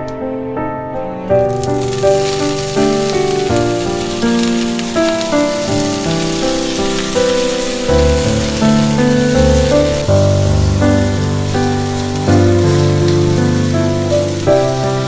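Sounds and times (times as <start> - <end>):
slow melodic background music: 0.0 - 15.0
food sizzling in a frying pan: 1.5 - 15.0.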